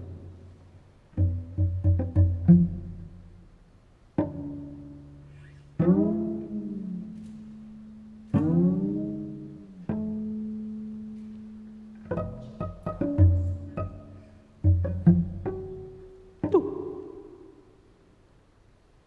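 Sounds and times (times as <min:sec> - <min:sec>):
cello plucked notes: 0:00.0 - 0:18.6.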